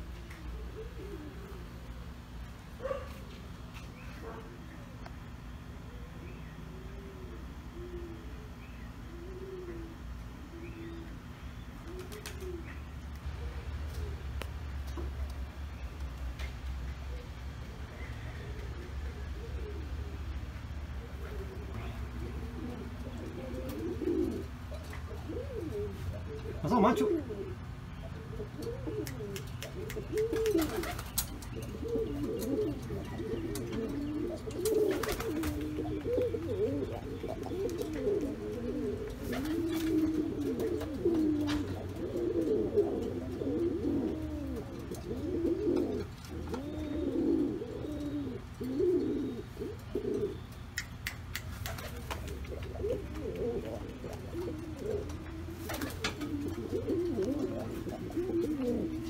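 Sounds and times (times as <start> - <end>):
pigeon cooing: 0.0 - 3.4, 4.0 - 15.6, 16.9 - 59.0.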